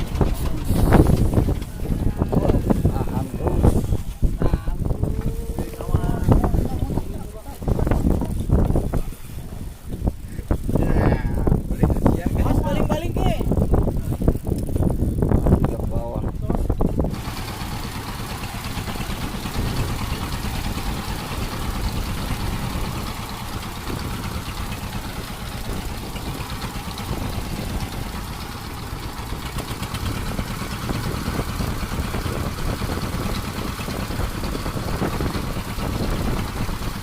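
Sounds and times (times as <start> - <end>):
boat engine rumbling: 0.0 - 37.0.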